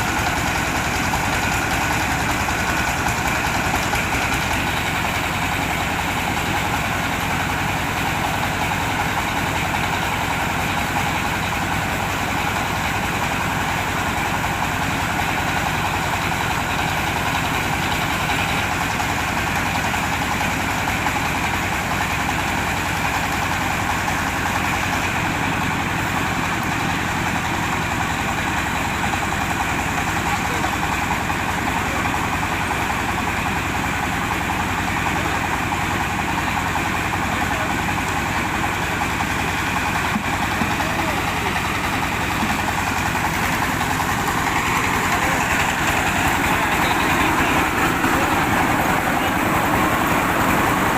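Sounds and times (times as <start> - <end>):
diesel engine running steadily: 0.0 - 50.9.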